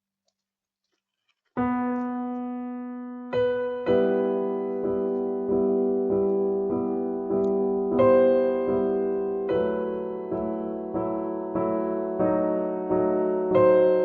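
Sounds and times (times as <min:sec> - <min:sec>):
keyboard chords: 0:01.6 - 0:14.0.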